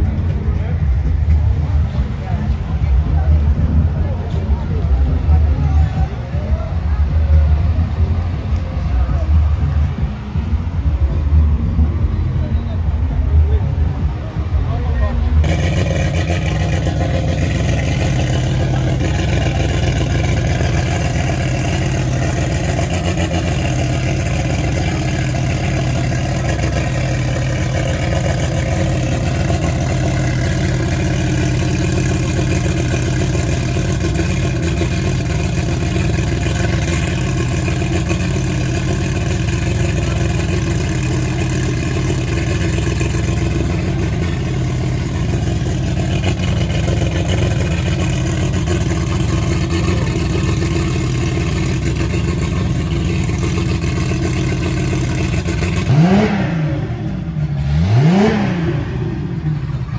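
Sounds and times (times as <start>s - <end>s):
car engine droning: 0.0s - 59.9s.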